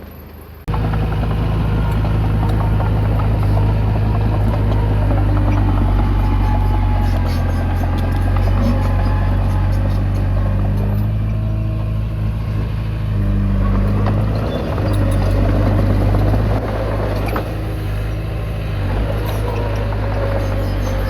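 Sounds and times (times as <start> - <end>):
bulldozer diesel engine under load: 0.1 - 21.0.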